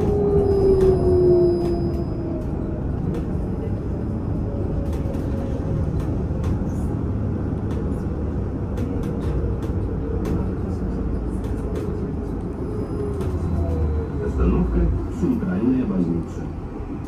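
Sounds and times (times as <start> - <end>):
trolleybus running and road noise: 0.0 - 17.0.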